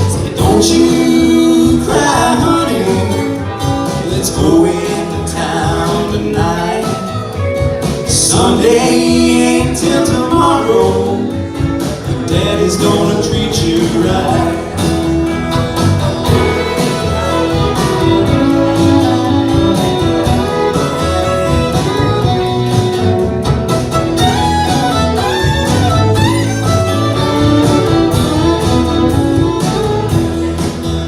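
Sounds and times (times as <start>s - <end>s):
country band playing instrumental: 0.0s - 31.0s.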